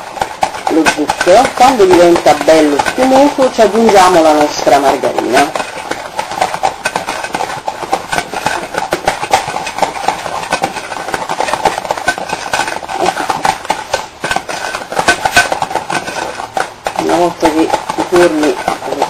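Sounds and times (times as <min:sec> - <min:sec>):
whisk scraping glass bowl: 0:00.0 - 0:19.0.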